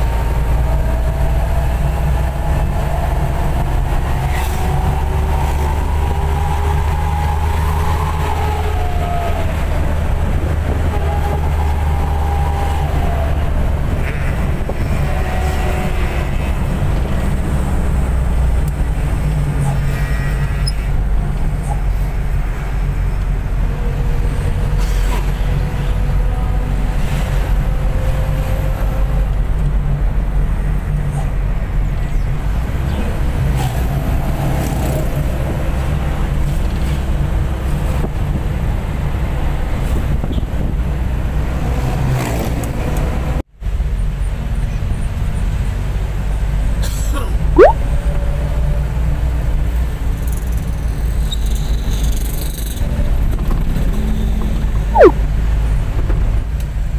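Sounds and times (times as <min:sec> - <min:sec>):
bus engine and road noise: 0:00.0 - 0:56.9.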